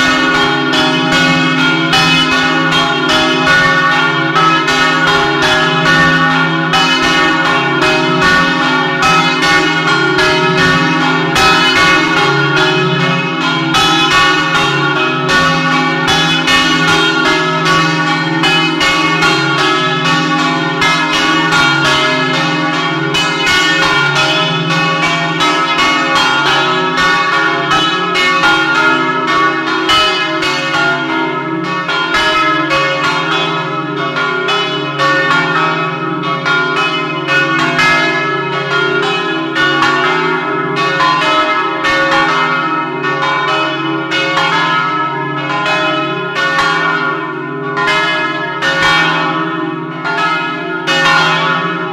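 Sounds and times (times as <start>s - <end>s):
church bell clapper strikes: 0.0s - 51.9s.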